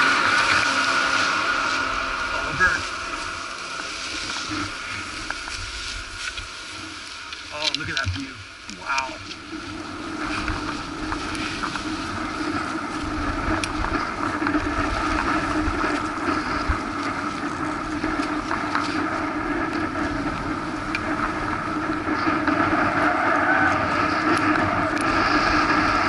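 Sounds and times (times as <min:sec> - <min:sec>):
skis sliding over snow: 0:00.0 - 0:26.0
wind rushing across microphone: 0:00.0 - 0:26.0.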